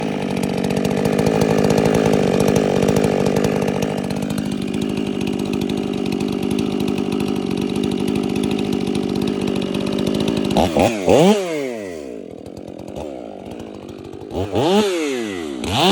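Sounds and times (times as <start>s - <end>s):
chainsaw running at high revs: 0.0s - 15.9s.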